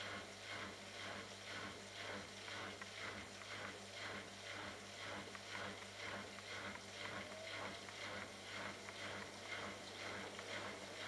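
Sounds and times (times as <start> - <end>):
washing machine hum: 0.0 - 11.0.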